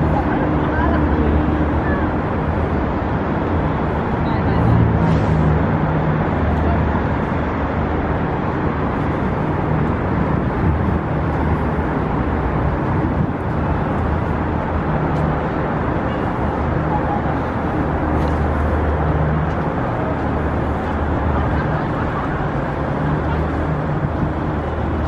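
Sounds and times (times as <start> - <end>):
road traffic rushing past: 0.0 - 25.0.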